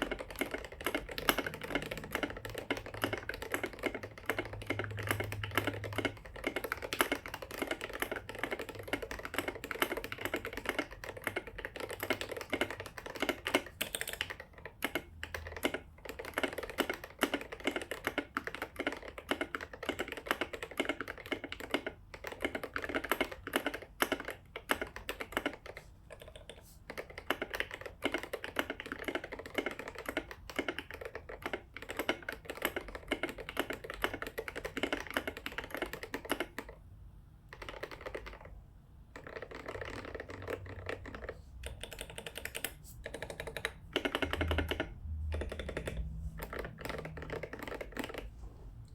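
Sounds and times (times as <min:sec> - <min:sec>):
fast mechanical keyboard typing: 0:00.0 - 0:48.4.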